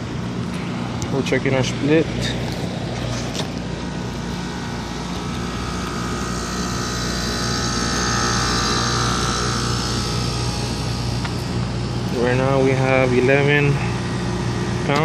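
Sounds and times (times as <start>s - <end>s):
compressor hum: 0.0s - 15.0s
condenser fan rushing: 0.0s - 15.0s.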